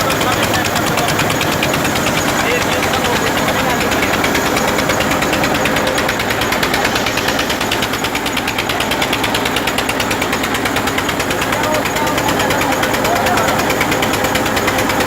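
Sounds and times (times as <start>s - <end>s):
tractor diesel engine pulsing: 0.0s - 15.0s.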